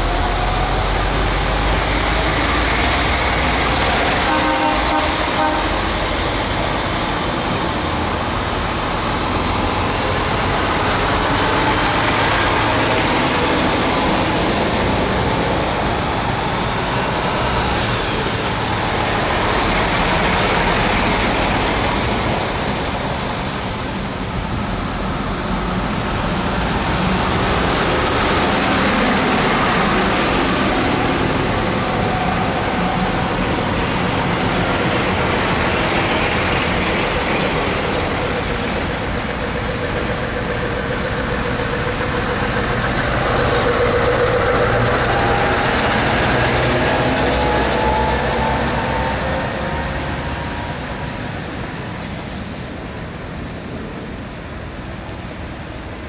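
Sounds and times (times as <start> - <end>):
heavy trucks driving past: 0.0 - 56.0.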